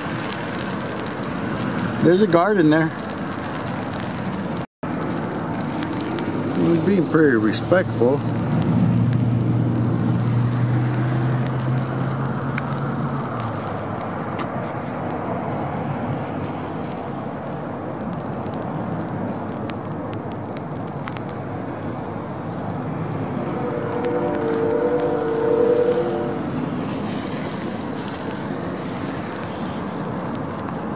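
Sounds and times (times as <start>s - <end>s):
road traffic on wet pavement: 0.0s - 30.9s.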